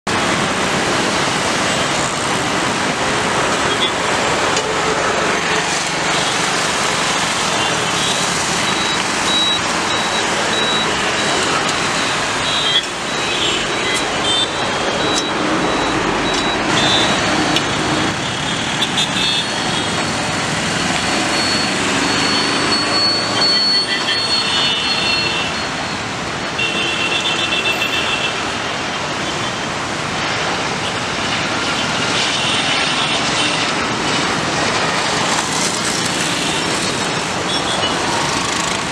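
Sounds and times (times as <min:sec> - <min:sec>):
road traffic roar: 0:00.0 - 0:38.9.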